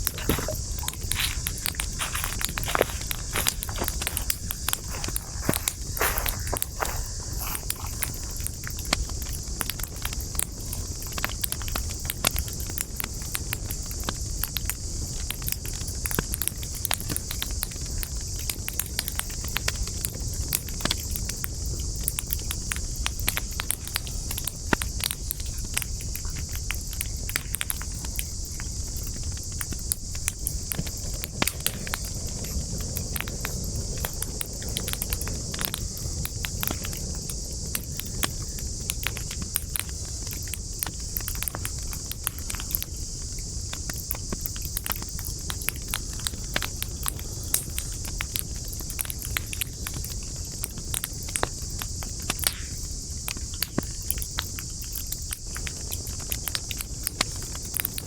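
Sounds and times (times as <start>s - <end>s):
campfire crackling and popping: 0.0s - 58.0s
constant high hiss: 0.0s - 58.0s
low rumble of flames: 0.0s - 58.0s.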